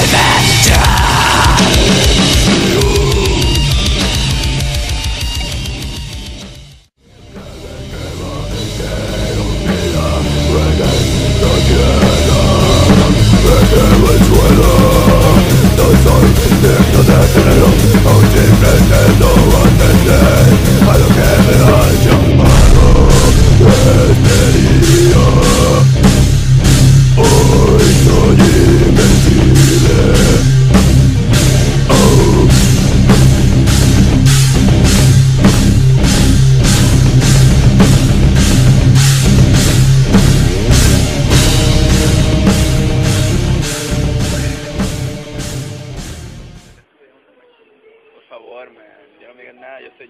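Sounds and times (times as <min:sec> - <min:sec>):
drum kit beat: 0:00.0 - 0:46.7
heavy rock music: 0:00.0 - 0:46.8.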